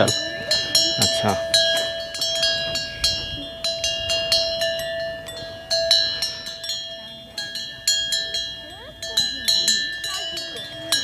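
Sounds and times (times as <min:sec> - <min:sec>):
camel bells clanking: 0:00.0 - 0:11.0.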